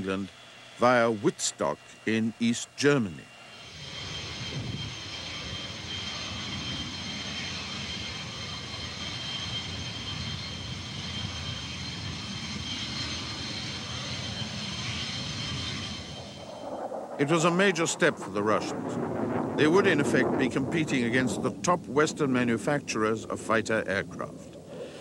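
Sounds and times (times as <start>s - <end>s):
high-pitched engine whine: 0.0s - 20.8s
jet engines roaring: 0.0s - 25.0s.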